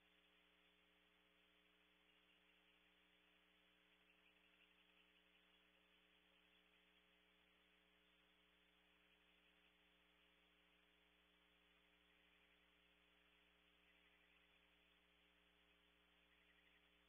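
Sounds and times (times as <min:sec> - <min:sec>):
faint mains hum with hiss: 0:00.0 - 0:17.0.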